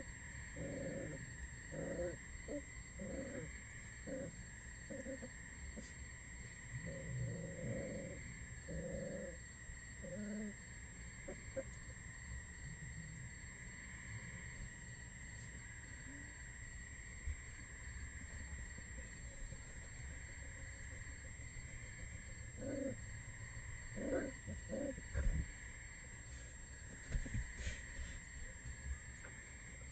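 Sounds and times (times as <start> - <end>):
crickets trilling: 0.0 - 29.9.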